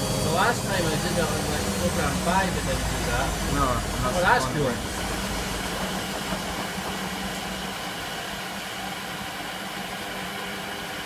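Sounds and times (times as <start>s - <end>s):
washing machine motor humming: 0.0s - 11.0s
washing machine spin rumble: 0.0s - 11.0s.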